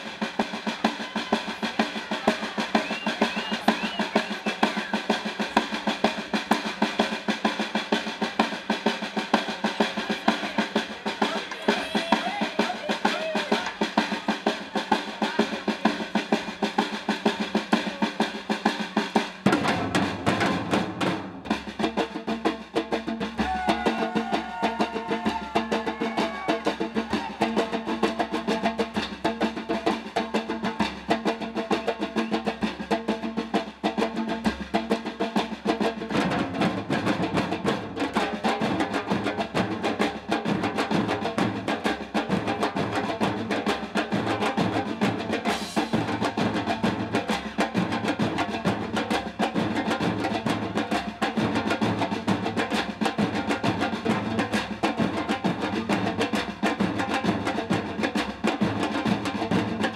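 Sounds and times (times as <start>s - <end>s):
percussion ensemble drumming: 0.0s - 59.9s.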